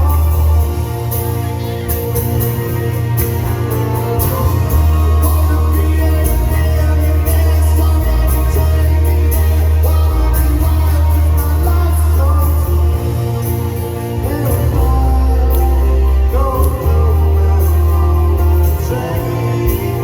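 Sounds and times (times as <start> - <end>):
person singing: 0.0 - 2.2, 3.7 - 20.0
heavy bass: 0.0 - 20.0.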